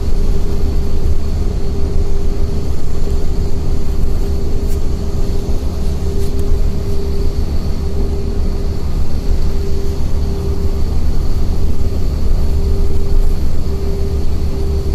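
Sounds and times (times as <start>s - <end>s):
bus engine drone: 0.0s - 14.9s
humming tone: 0.0s - 14.9s
road rumble: 0.0s - 14.9s.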